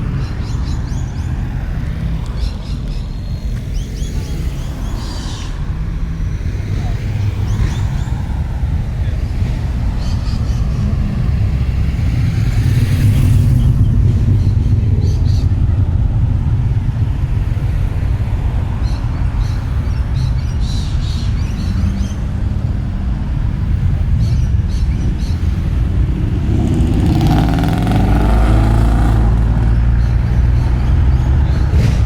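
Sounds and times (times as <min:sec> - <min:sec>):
car engine rumbling and revving: 0:00.0 - 0:32.0.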